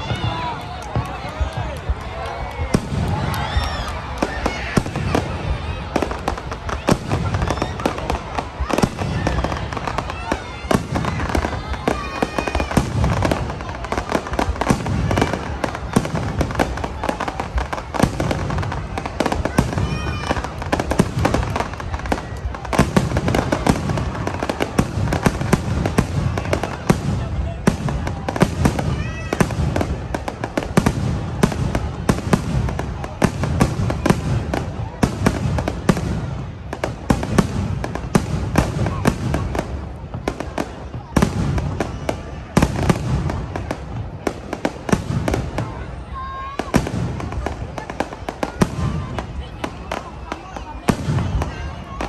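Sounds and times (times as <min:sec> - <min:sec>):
fireworks bangs and pops: 0:00.0 - 0:52.0
fireworks crackling: 0:00.0 - 0:52.0.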